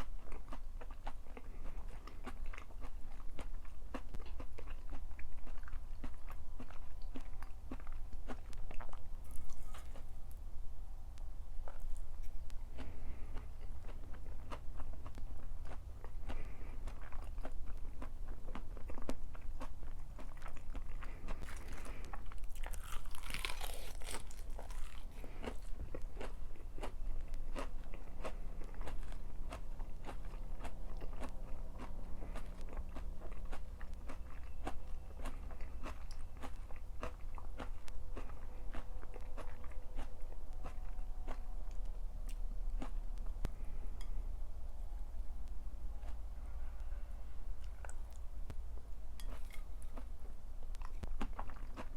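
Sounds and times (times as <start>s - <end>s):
person crunching and chewing: 0.0s - 10.5s, 11.6s - 44.2s, 49.1s - 51.9s.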